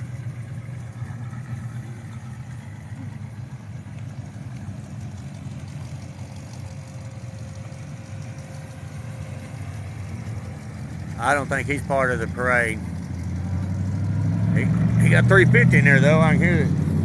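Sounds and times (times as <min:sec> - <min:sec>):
classic car engines rumbling: 0:00.0 - 0:17.0.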